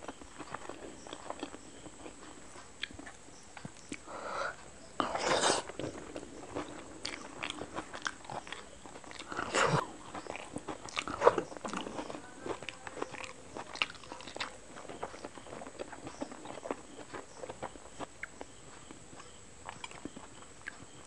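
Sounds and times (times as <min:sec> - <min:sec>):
person chewing noodles: 0:00.0 - 0:21.0.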